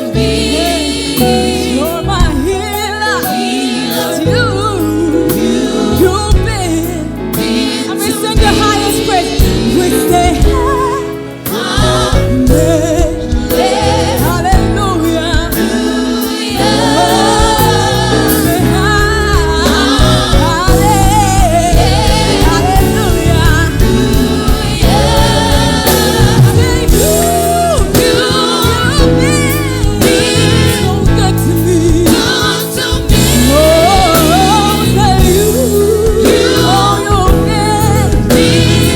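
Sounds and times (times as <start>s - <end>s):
band with bass and beat: 0.0s - 38.9s
choir singing gospel: 0.0s - 38.9s.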